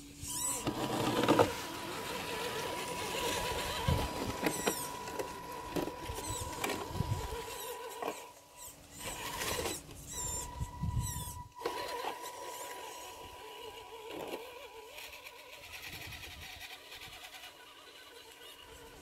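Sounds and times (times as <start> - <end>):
toy car motor whining: 0.0 - 19.0
rustling or scraping: 0.3 - 16.6.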